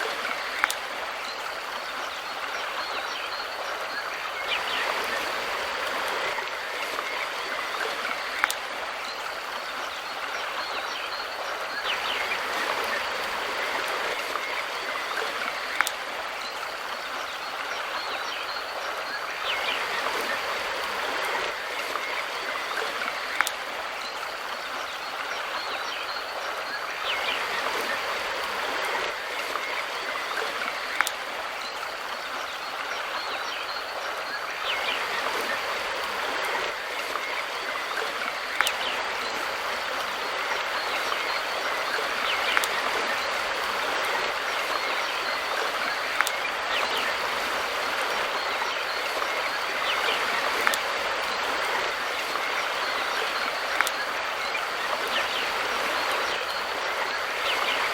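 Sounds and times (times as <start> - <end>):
mountain river flowing: 0.0 - 57.9.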